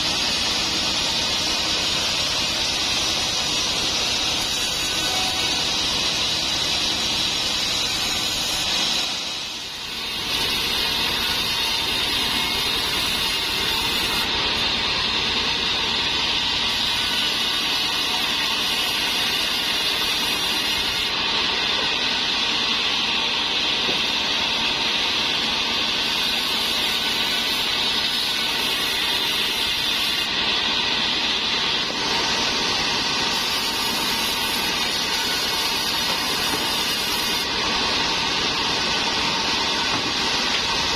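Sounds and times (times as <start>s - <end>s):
band sawmill cutting timber: 0.0s - 40.9s.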